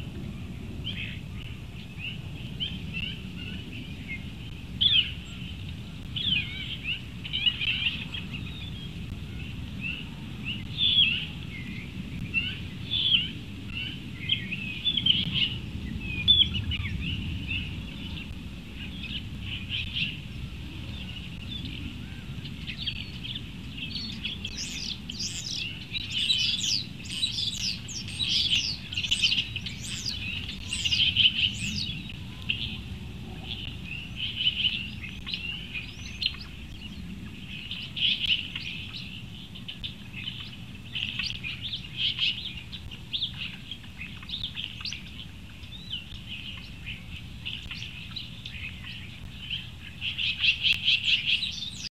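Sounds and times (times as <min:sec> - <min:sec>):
low steady rumble: 0:00.0 - 0:51.9
small birds chirping: 0:00.0 - 0:51.9.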